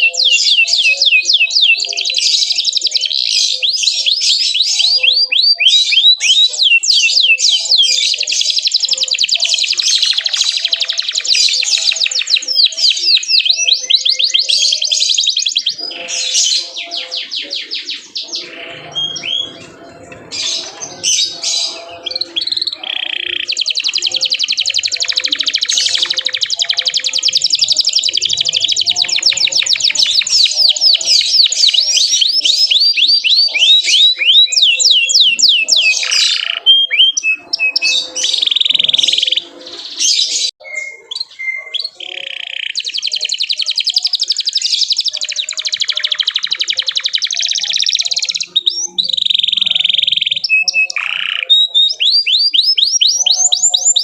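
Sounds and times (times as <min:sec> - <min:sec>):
canary singing chirps and trills: 0:00.0 - 0:54.0.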